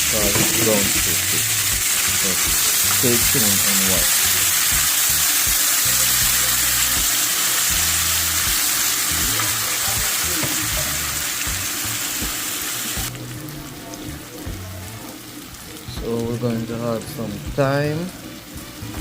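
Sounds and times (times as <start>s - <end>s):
onion and tomato sizzling in oil: 0.0s - 19.0s.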